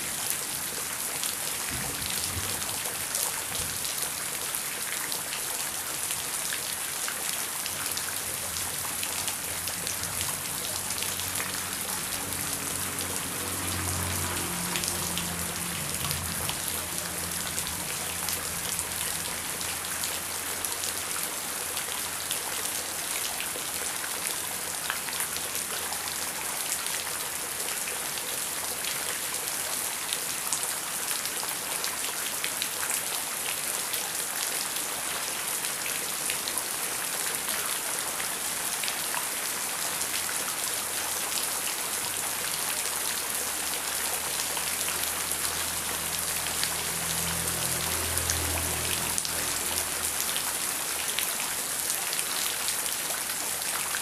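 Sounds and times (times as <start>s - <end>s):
heavy rain on hard surface: 0.0s - 54.0s.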